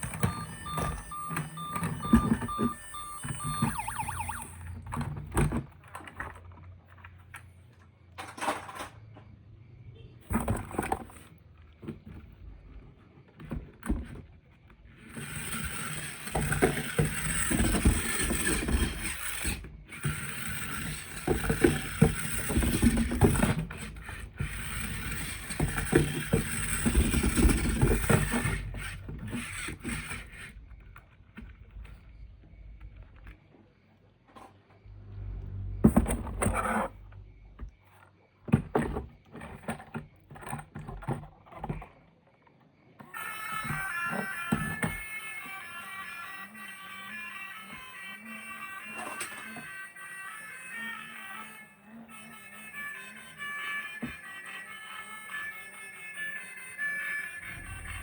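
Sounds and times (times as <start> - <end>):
plastic toys rattling and scraping: 4.9 - 9.0, 10.3 - 33.4, 37.6 - 42.4, 43.0 - 58.0.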